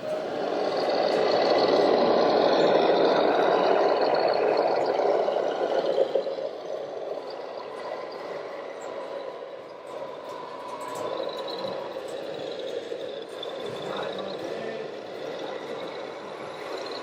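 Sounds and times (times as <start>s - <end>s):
rc model vehicle running: 0.0s - 17.0s.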